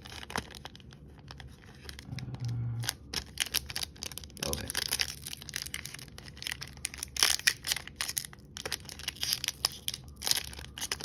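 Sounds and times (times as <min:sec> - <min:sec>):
foil wrapper crinkling: 0:00.0 - 0:02.1, 0:02.8 - 0:11.0.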